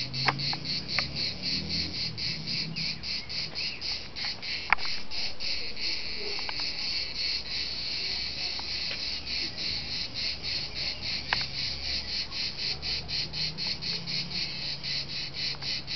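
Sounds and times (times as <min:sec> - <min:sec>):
cicadas buzzing in chorus: 0:00.0 - 0:15.9.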